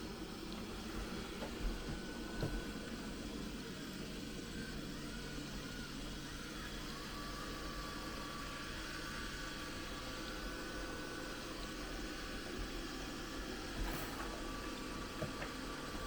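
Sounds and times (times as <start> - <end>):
robot vacuum motor whirring: 0.3 - 16.0.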